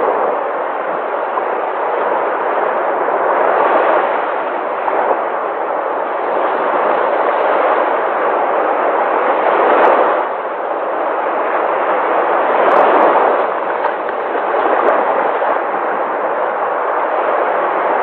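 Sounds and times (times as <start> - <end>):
sea waves rushing: 0.0 - 18.0.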